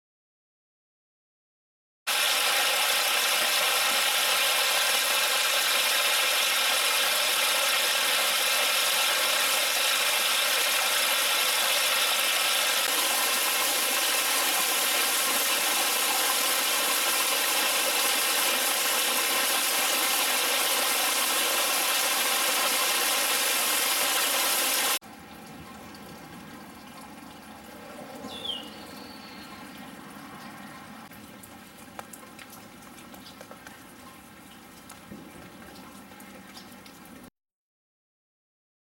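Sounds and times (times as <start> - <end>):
rain patter and dripping: 2.1 - 37.3.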